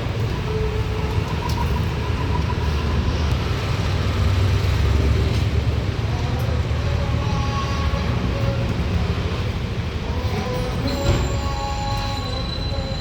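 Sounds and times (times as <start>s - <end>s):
large vehicle engine rumbling: 0.0s - 13.0s.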